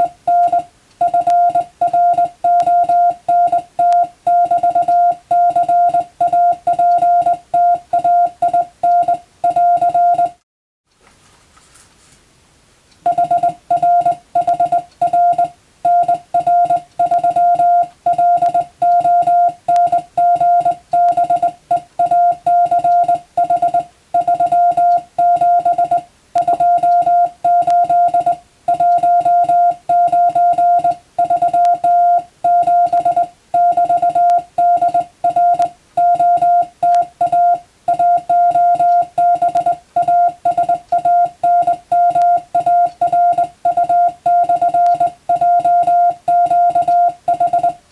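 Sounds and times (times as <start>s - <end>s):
morse code tone: 0.0s - 10.4s, 13.1s - 47.9s.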